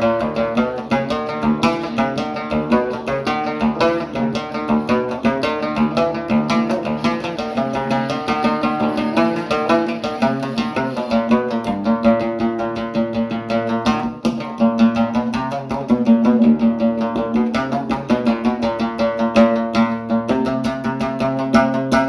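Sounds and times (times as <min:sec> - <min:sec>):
plucked string instrument runs: 0:00.0 - 0:22.0.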